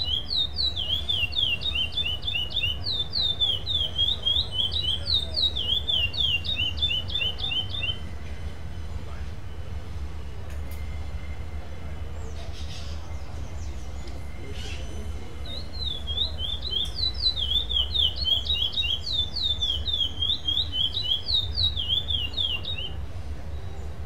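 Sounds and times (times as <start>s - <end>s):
finch singing whistles: 0.0s - 8.2s, 12.2s - 24.0s.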